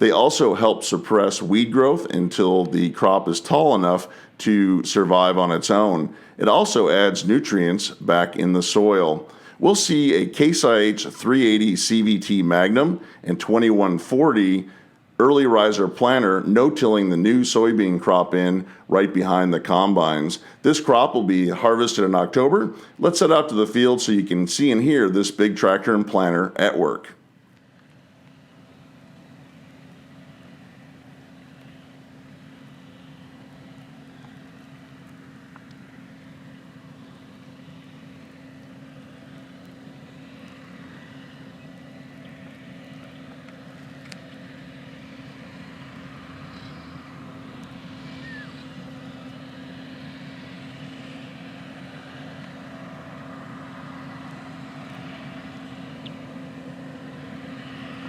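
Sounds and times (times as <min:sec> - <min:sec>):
tractor diesel engine running: 0:00.0 - 0:26.6, 0:27.6 - 0:58.0.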